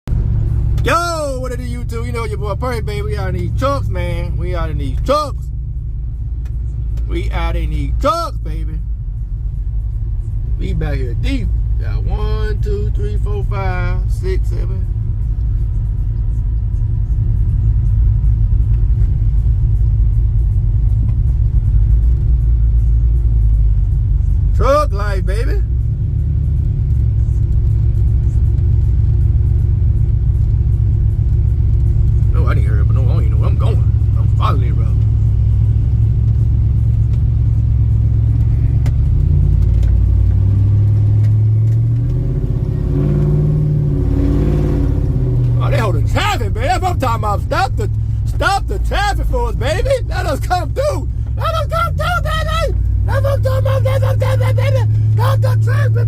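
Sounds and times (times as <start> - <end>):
truck engine rumble: 0.0 - 56.0.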